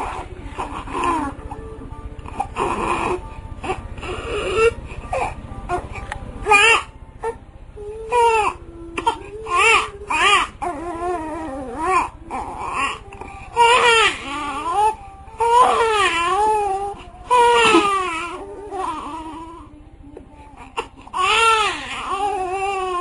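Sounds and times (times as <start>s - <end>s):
baby crying: 0.0s - 1.6s, 2.3s - 19.7s, 20.6s - 23.0s
dog whining: 0.0s - 7.4s, 8.0s - 19.6s.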